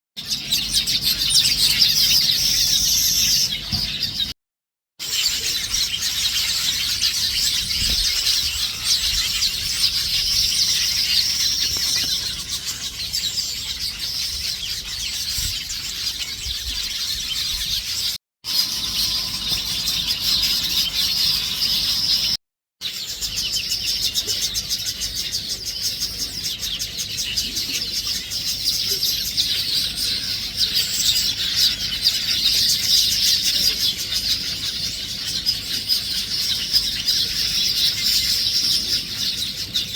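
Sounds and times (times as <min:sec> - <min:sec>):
small birds chirping: 0:00.2 - 0:04.4, 0:05.0 - 0:39.9.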